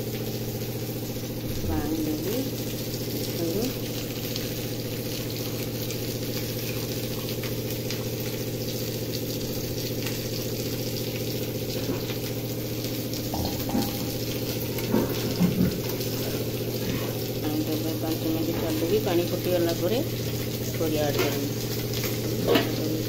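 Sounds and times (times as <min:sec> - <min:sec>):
water pouring into a pot: 0:00.0 - 0:23.0.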